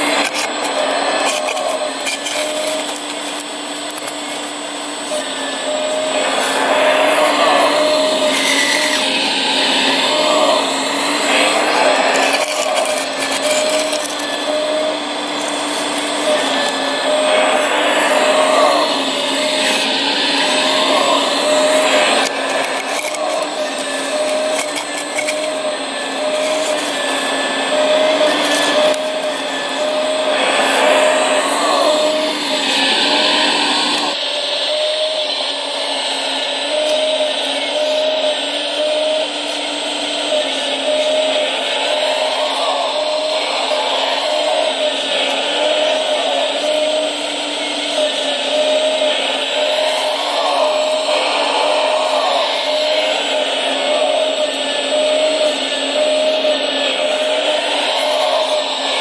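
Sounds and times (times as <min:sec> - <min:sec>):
model excavator motor whine: 0:00.0 - 0:59.0
short higher motor tones: 0:00.0 - 0:59.0.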